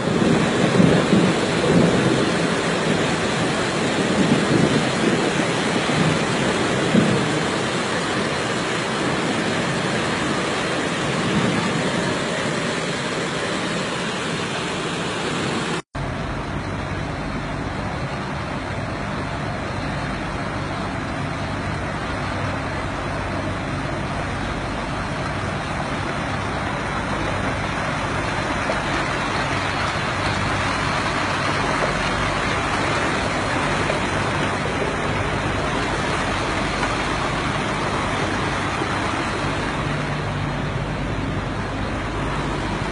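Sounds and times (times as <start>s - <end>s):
heavy rain on a street: 0.0s - 42.9s
steady rushing noise: 0.0s - 42.9s.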